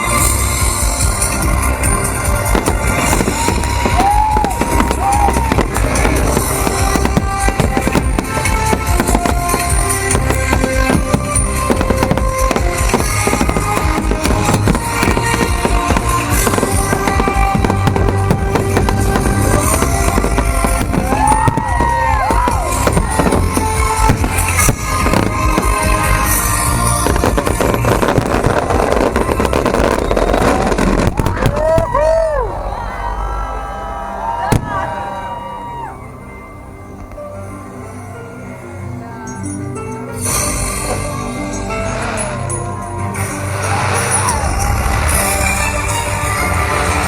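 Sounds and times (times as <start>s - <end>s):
fireworks bursting and crackling: 0.0s - 38.0s, 40.1s - 47.0s
loud show music: 0.0s - 47.0s.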